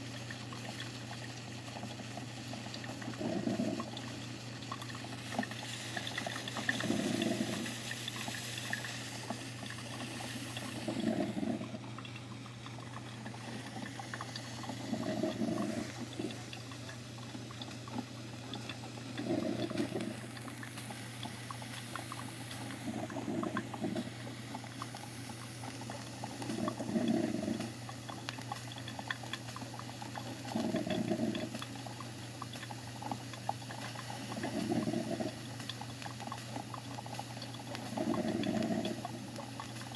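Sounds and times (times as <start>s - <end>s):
coffee machine humming: 0.0s - 39.9s
water bubbling and gurgling: 0.0s - 39.9s.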